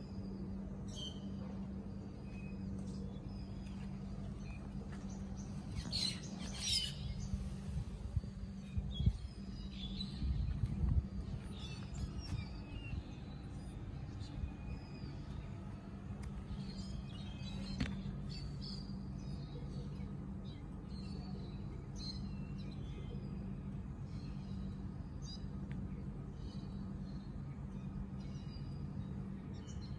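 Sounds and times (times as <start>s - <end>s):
low hum: 0.0s - 29.9s
small birds chirping: 0.0s - 29.9s.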